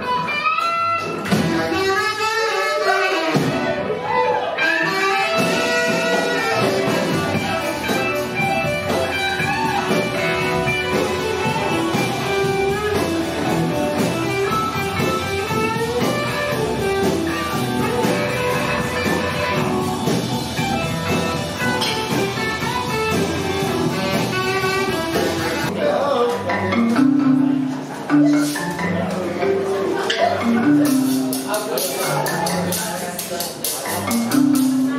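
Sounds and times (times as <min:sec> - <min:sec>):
electric guitar: 0:00.0 - 0:34.9
live band music: 0:00.0 - 0:34.9.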